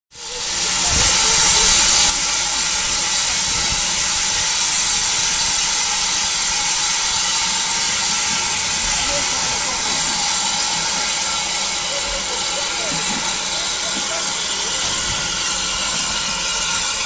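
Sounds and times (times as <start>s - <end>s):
steam locomotive hissing: 0.1s - 17.0s.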